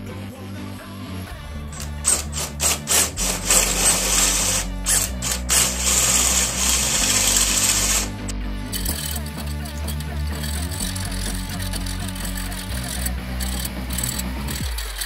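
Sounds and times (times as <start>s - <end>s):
background music: 0.0s - 15.0s
drill cutting into metal: 1.7s - 15.0s.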